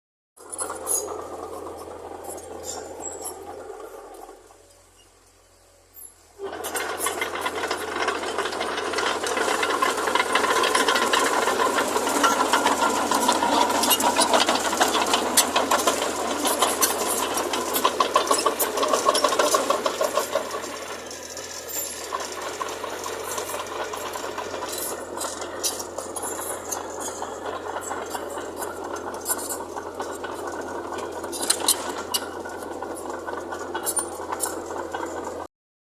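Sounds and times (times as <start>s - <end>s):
diesel machinery rattling: 0.4s - 35.5s.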